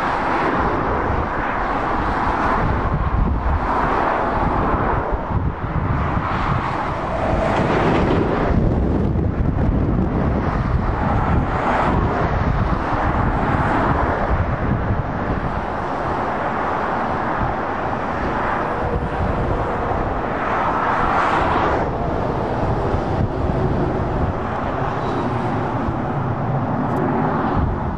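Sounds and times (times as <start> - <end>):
motorway traffic rumbling: 0.0 - 27.9.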